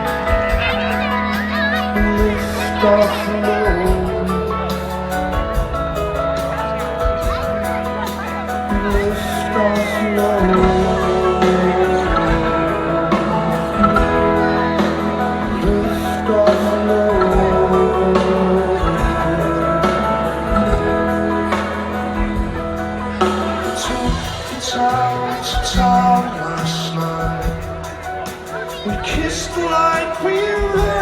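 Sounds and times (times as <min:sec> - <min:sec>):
person singing: 0:00.0 - 0:05.7, 0:08.2 - 0:22.4, 0:23.2 - 0:31.0
live rock band playing: 0:00.0 - 0:31.0.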